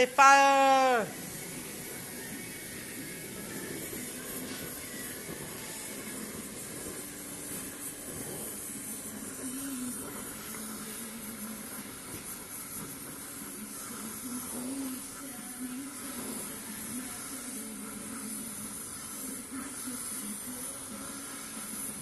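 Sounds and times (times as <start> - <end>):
gas torch flame hissing: 0.0 - 22.0.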